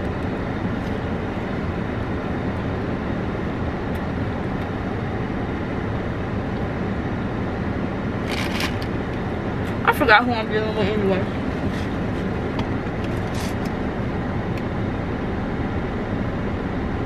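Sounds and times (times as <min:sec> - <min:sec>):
car cabin rumble and hiss: 0:00.0 - 0:17.0.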